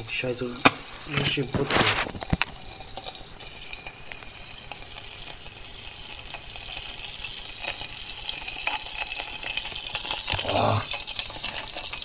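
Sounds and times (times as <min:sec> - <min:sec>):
small fire hissing and crackling: 0:00.0 - 0:12.0.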